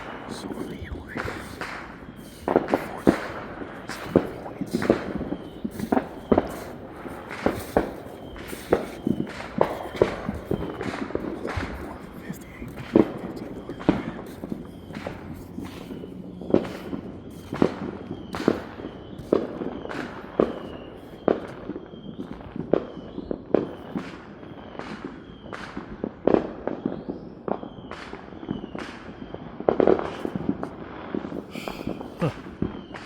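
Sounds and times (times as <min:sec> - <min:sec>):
firecrackers banging and popping: 0:00.0 - 0:33.0.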